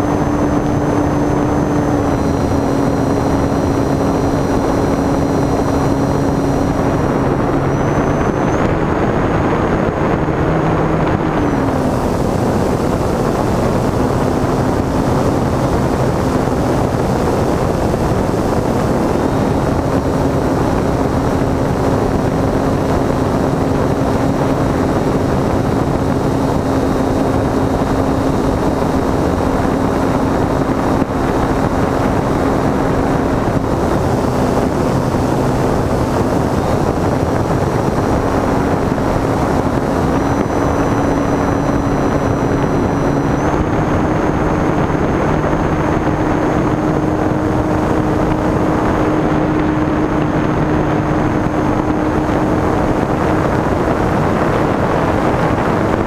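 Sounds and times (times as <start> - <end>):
high electric motor whine: 0.0 - 56.0
propeller drone: 0.0 - 56.0
wind rush on microphone: 0.0 - 56.0.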